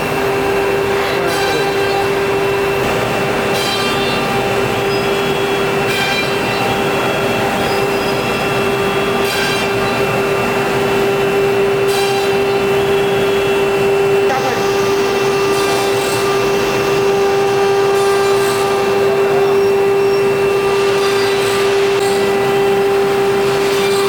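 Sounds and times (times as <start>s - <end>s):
router bit cutting wood: 0.0s - 24.0s
router spindle humming: 0.0s - 24.0s.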